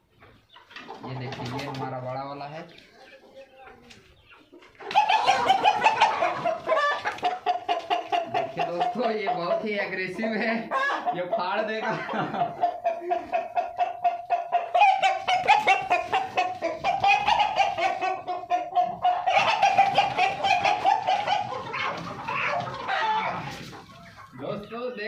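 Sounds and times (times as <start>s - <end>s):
chickens squawking and clucking: 0.0s - 25.0s.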